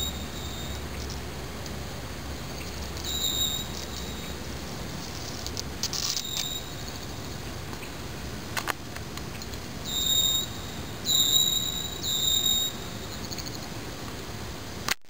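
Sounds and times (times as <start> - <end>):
high thin chirping calls: 0.0 - 8.1, 9.3 - 13.8.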